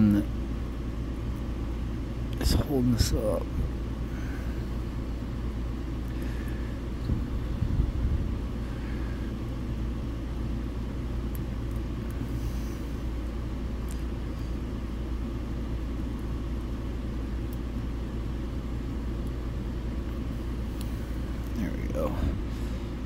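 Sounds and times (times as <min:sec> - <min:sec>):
faint hum: 0:00.0 - 0:23.0
low background rumble: 0:00.0 - 0:23.0.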